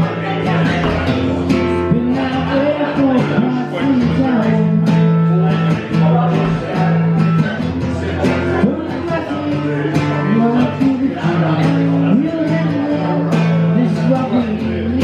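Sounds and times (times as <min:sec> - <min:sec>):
acoustic guitar strumming: 0:00.0 - 0:15.0
low bass notes: 0:00.0 - 0:15.0.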